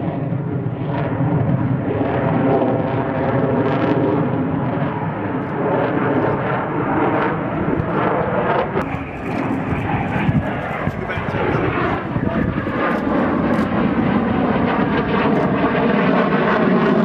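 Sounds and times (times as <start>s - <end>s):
jet engines of fighter overhead: 0.0s - 17.0s.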